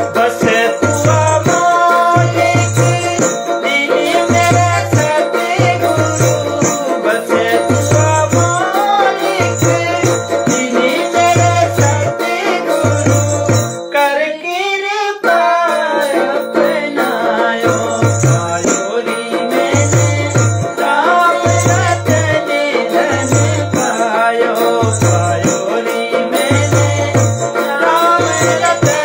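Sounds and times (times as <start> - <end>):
hand drum rhythm: 0.0 - 14.1, 15.3 - 29.0
jingling rattle: 0.0 - 14.8, 15.8 - 29.0
man and woman singing: 0.0 - 29.0.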